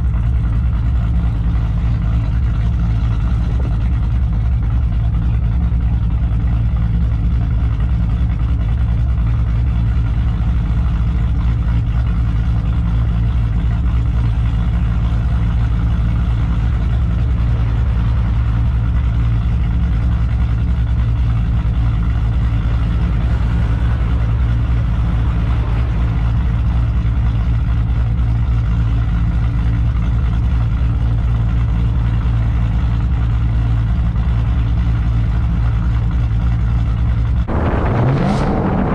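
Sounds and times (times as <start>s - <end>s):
car exhaust drone: 0.0s - 38.9s.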